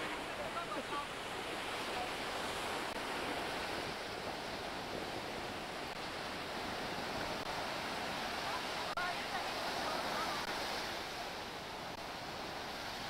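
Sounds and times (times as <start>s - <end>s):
ocean surf washing onto beach: 0.0s - 13.0s.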